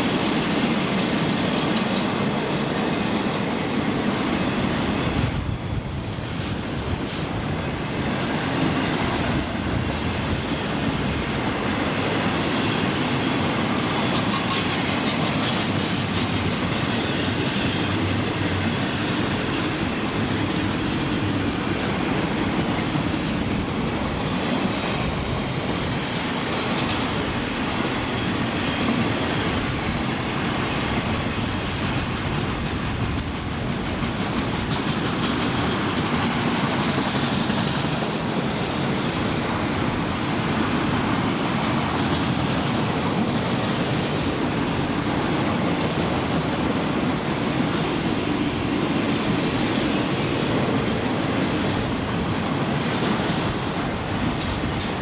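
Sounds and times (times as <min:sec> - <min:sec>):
freight train cars rolling past: 0:00.0 - 0:55.0
train wheels clicking: 0:00.0 - 0:55.0.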